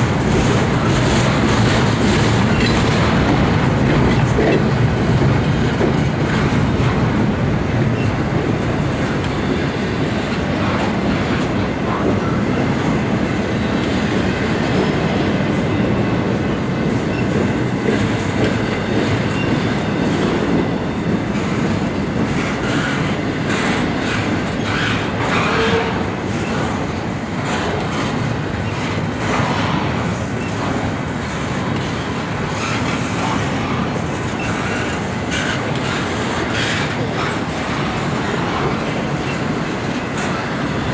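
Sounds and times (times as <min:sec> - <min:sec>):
freight train rolling past: 0:00.0 - 0:40.9
wheels clicking over rail joints: 0:00.0 - 0:40.9.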